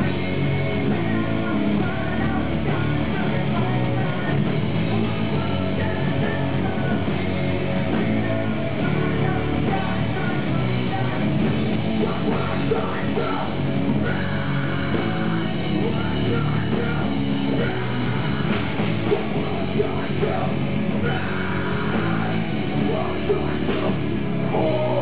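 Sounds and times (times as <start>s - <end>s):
person singing: 0.0s - 11.4s, 12.0s - 25.0s
drums: 0.0s - 25.0s
loud electric guitars: 0.0s - 25.0s.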